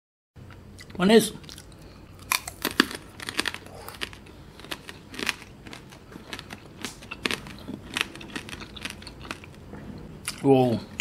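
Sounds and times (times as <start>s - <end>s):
sugar shell crunching: 0.8s - 9.6s.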